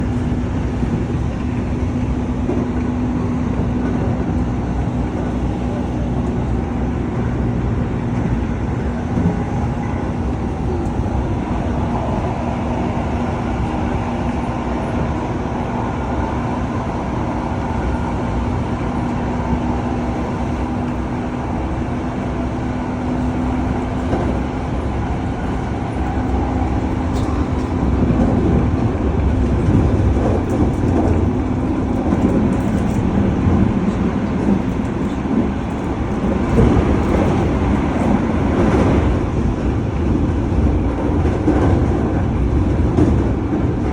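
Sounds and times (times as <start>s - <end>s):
constant low hum: 0.0s - 43.9s
train wheels rumbling: 0.0s - 43.9s.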